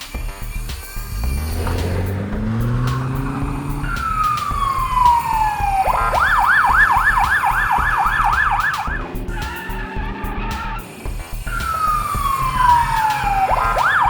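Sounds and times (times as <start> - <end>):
low rumble: 0.4 - 14.0
fire truck siren: 1.0 - 14.0.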